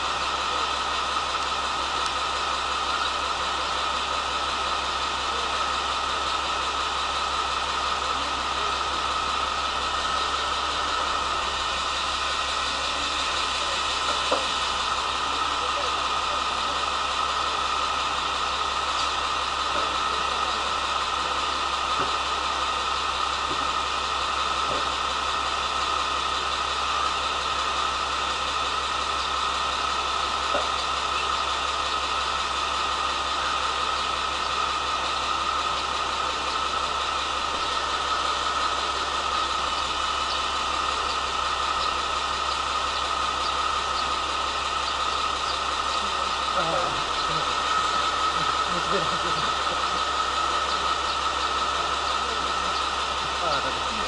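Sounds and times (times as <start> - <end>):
diesel railcar engine idling: 0.0 - 54.0.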